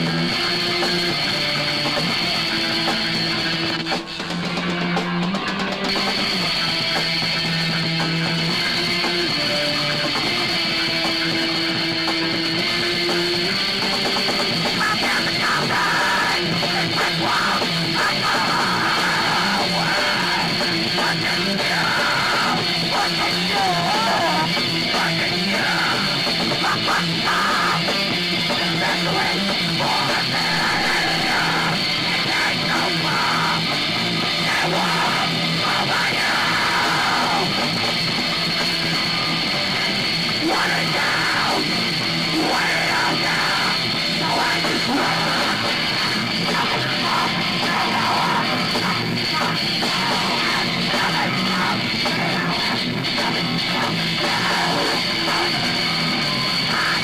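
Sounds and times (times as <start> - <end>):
punk band playing live: 0.0 - 57.0.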